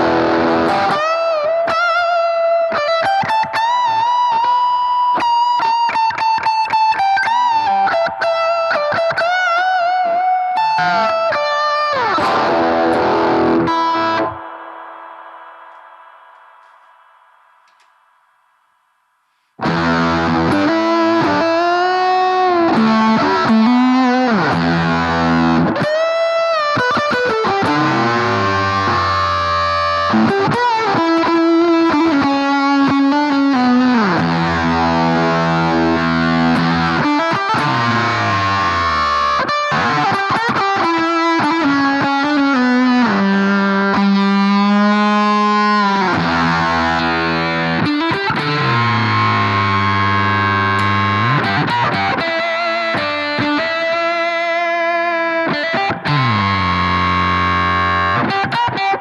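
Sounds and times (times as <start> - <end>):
electric guitar chords and bends: 0.0 - 18.2, 19.6 - 59.0.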